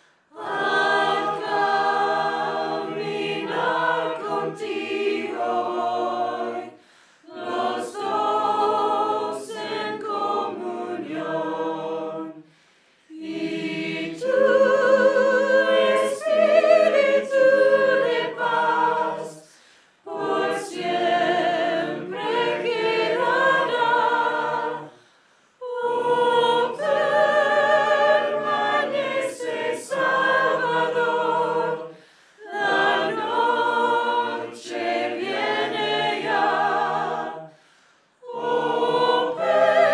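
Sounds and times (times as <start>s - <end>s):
mixed choir singing a hymn: 0.2s - 12.5s, 13.1s - 39.9s.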